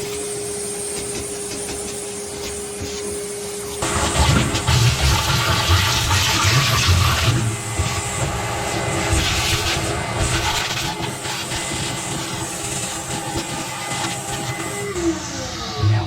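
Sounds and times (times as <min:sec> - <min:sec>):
vacuum cleaner motor running: 0:00.0 - 0:16.0.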